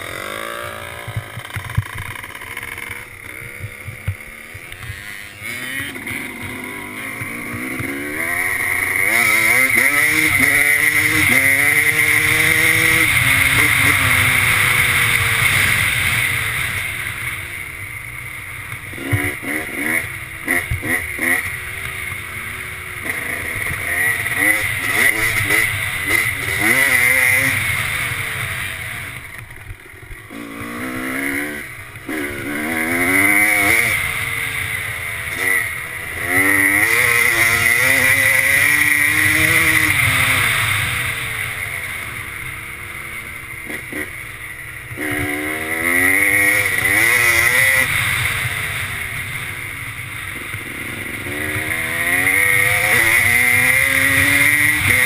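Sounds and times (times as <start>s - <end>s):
two-stroke engine revving: 0.0s - 55.0s.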